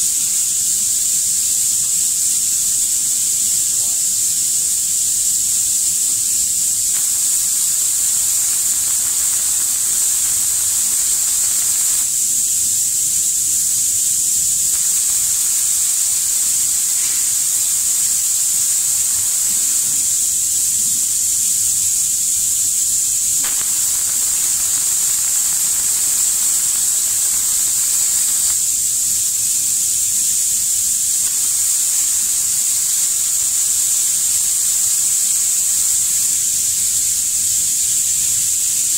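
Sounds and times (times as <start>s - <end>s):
spray guns hissing: 0.0s - 38.6s.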